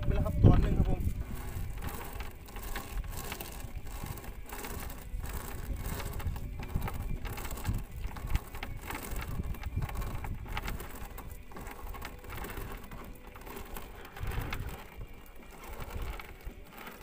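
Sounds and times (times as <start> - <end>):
wind rumble on microphone: 0.0 - 12.9, 13.6 - 16.4.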